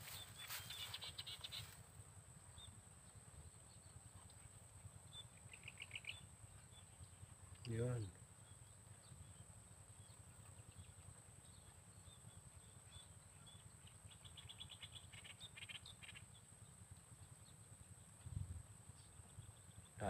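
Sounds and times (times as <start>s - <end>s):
small bird chirps: 0.0s - 1.8s, 2.5s - 20.0s.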